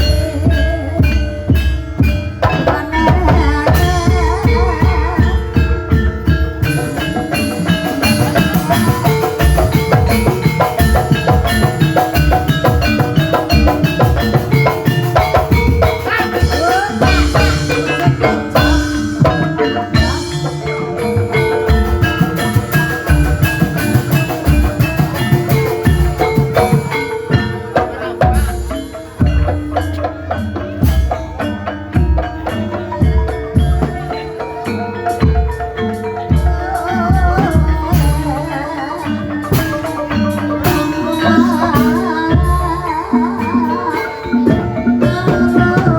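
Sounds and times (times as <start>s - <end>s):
drums: 0.0s - 45.9s
tuned mallet percussion: 0.0s - 45.9s.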